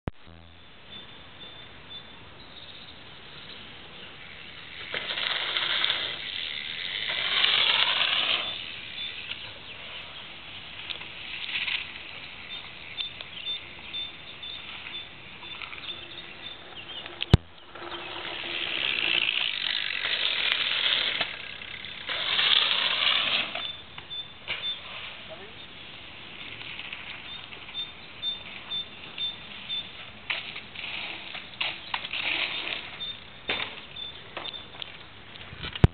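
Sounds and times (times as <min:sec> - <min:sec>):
bicycle tyres rolling on dirt: 0:00.2 - 0:35.9
freewheel hub buzzing: 0:03.4 - 0:09.8, 0:10.4 - 0:35.0.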